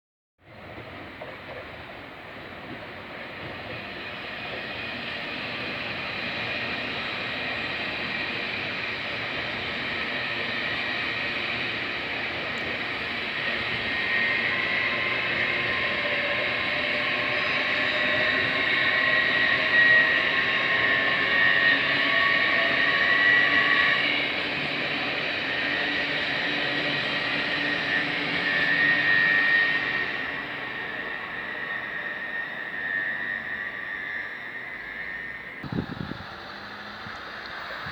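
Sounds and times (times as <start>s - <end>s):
train rumbling hiss: 0.4s - 37.9s
whining tones: 0.6s - 37.9s.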